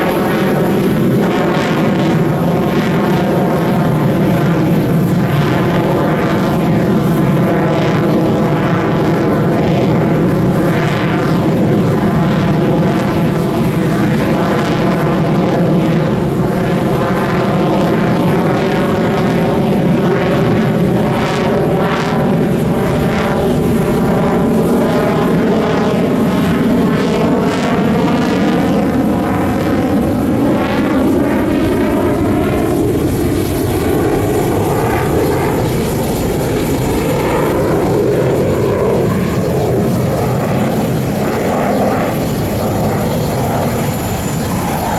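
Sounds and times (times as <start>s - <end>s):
jet engine roar: 0.0s - 44.9s.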